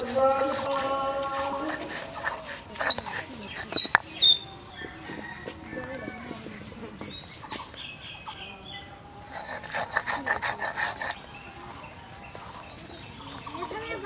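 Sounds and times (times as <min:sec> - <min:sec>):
chickens clucking: 0:00.0 - 0:14.0
small birds chirping: 0:00.0 - 0:14.0.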